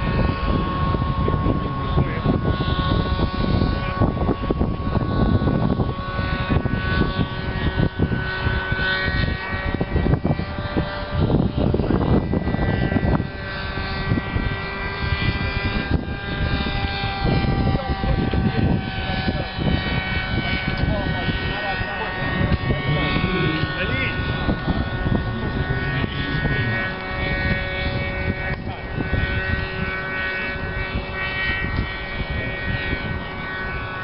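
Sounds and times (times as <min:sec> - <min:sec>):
model plane engine buzzing: 0:00.0 - 0:34.0
wind rumble on microphone: 0:00.0 - 0:34.0.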